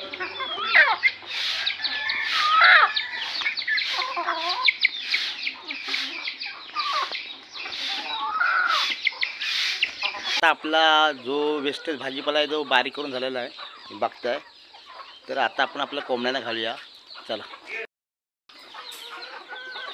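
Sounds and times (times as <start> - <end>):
hens clucking: 0.0 - 17.9, 18.5 - 19.9.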